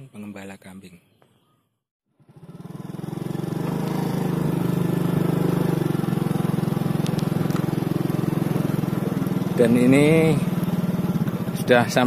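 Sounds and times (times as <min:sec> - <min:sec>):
small motorcycle engine running: 0:02.1 - 0:12.0.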